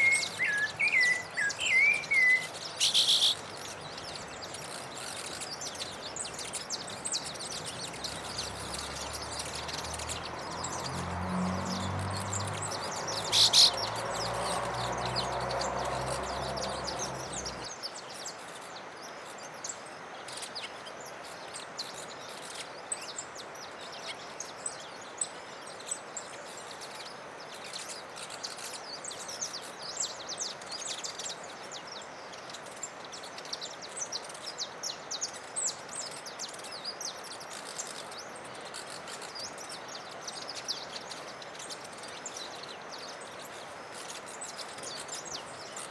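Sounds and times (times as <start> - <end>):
outdoor background hiss: 0.0 - 45.9
songbirds chirping: 0.0 - 45.9.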